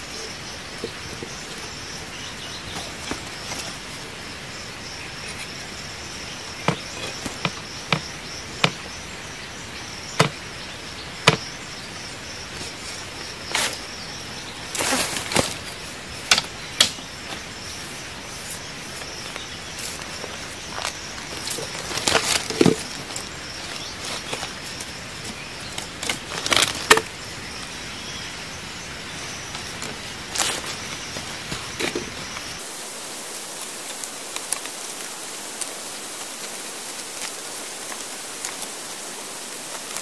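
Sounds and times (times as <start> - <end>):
high insect drone: 0.0 - 40.0.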